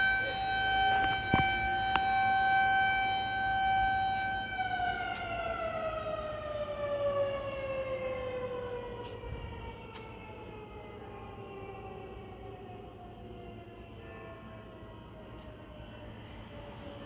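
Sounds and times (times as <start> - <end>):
tornado warning siren winding down: 0.0 - 17.0.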